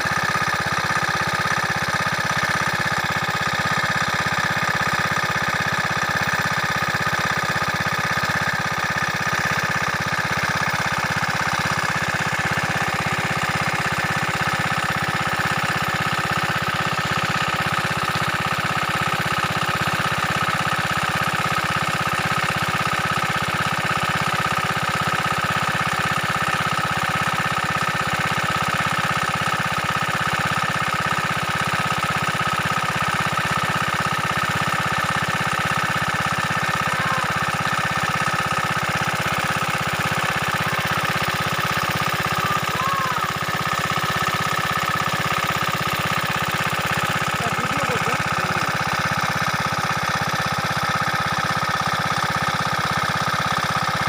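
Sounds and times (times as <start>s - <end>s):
diesel pump engine running: 0.0s - 54.0s.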